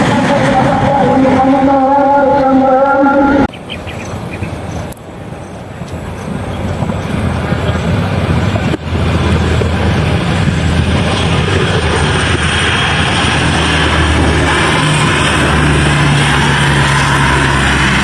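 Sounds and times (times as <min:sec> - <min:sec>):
airliner engines passing: 0:00.0 - 0:18.0.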